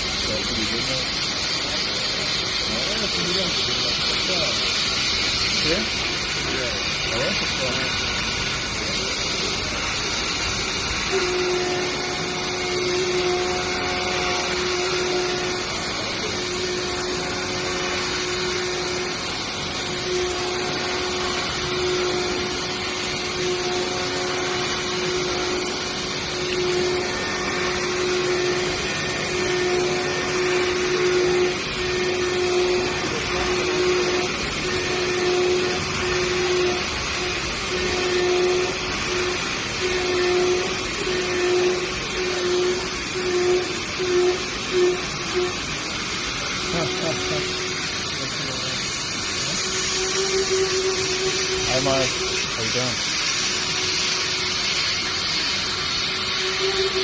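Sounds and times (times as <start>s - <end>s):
machining hiss: 0.0s - 57.0s.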